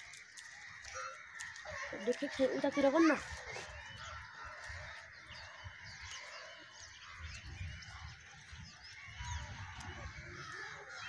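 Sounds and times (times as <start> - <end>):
crows calling: 0.0 - 11.0.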